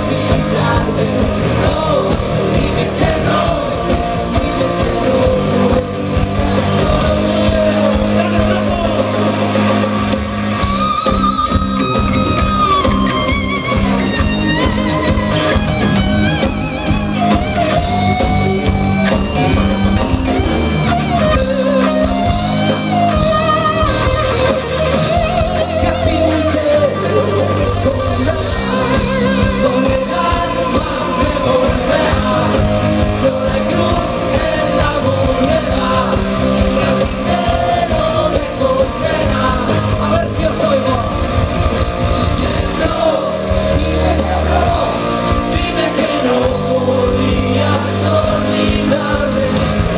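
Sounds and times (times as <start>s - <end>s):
bass: 0.0s - 49.9s
drums: 0.0s - 49.9s
electric guitars: 0.0s - 49.9s
lead singer: 0.0s - 49.9s.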